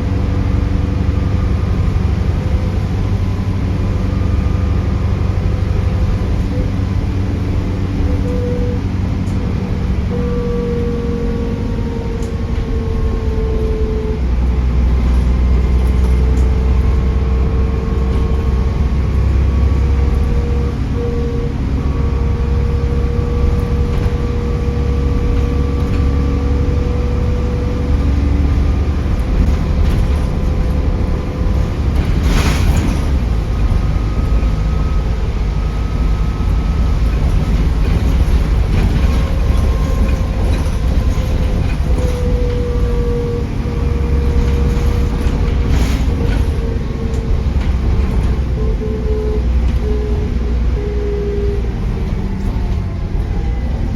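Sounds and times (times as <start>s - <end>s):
bus engine rumble: 0.0s - 53.9s.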